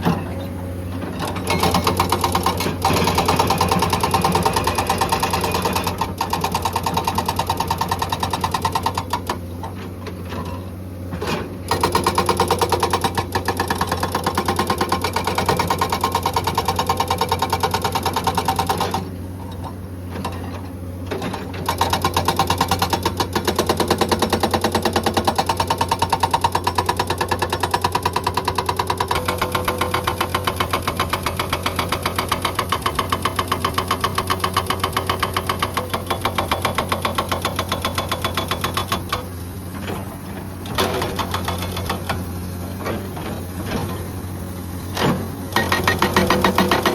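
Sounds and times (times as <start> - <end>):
hydraulic breaker hammering rock: 0.0 - 44.3, 44.9 - 46.9
diesel engine running: 0.0 - 46.9.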